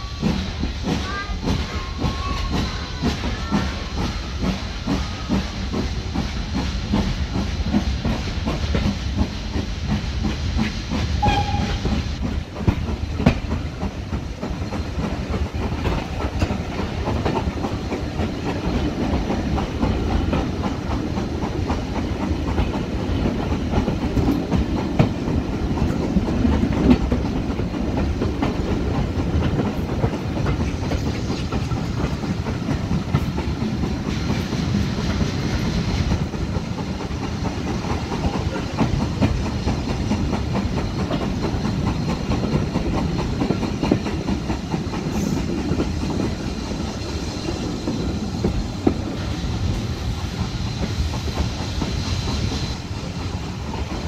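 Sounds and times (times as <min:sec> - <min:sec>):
steam hissing: 0:00.0 - 0:54.0
train wheels clickety-clack: 0:00.0 - 0:54.0.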